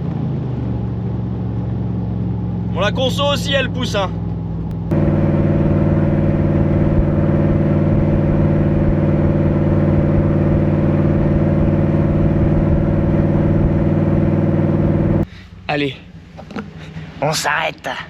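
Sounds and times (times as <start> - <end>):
truck engine exhaust note: 0.0 - 17.2.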